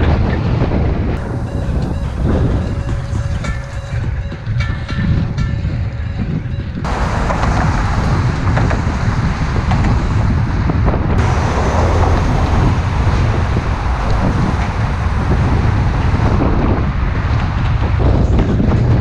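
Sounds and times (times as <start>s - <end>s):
road traffic noise: 0.0s - 19.0s
wind rushing over microphone: 0.0s - 19.0s.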